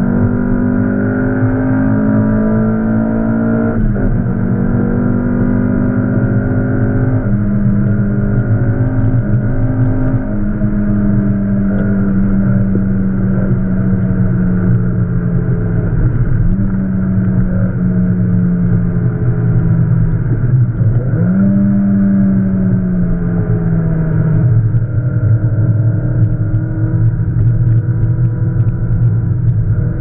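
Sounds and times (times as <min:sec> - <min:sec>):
car engine from inside cabin: 0:00.0 - 0:30.0.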